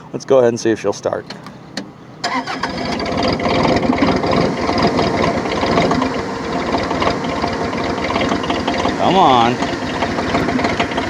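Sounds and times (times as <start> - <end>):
diesel engine cranking: 1.2 - 11.0.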